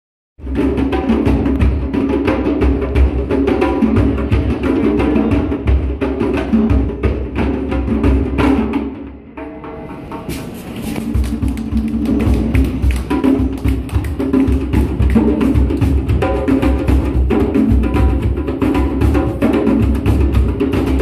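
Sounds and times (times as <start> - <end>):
djembe hand drums: 0.4 - 21.0.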